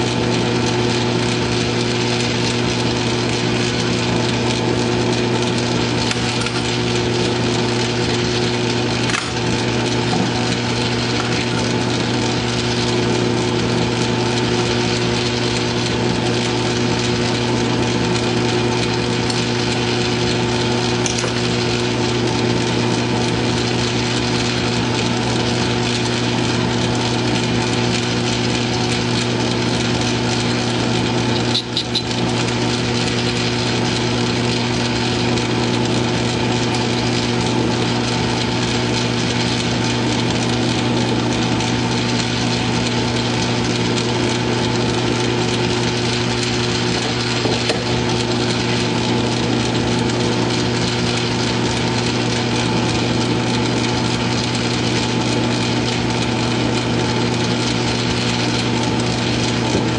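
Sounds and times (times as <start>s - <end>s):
metal lathe motor humming: 0.0s - 59.9s.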